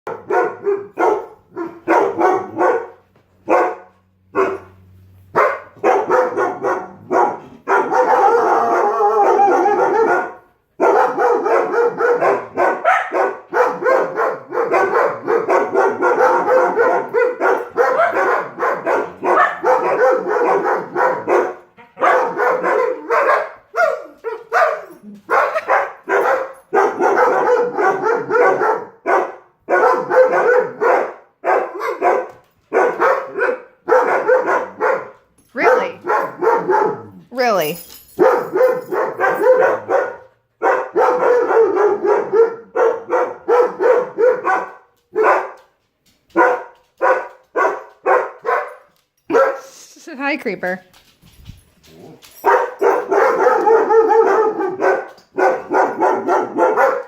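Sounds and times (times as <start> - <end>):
dogs barking: 0.0 - 37.2, 38.1 - 49.7, 52.0 - 57.0.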